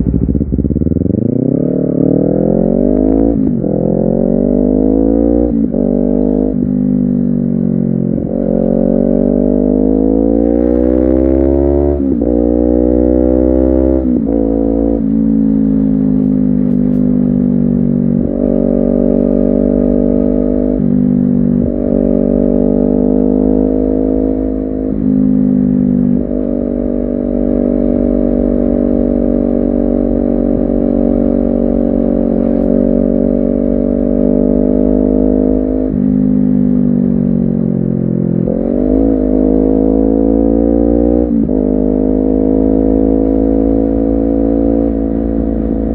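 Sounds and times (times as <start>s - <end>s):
motorcycle engine shifting gears: 0.0s - 45.9s.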